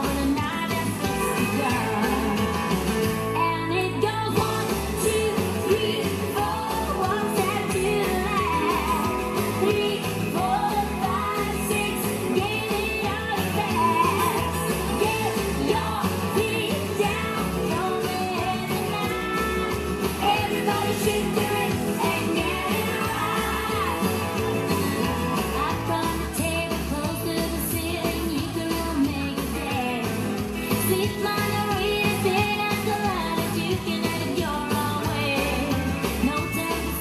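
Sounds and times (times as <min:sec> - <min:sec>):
rock and roll song with singing: 0:00.0 - 0:37.0.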